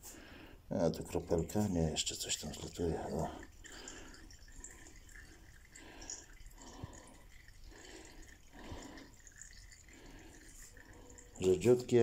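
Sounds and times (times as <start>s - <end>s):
oil trickling into canister: 0.0s - 12.0s.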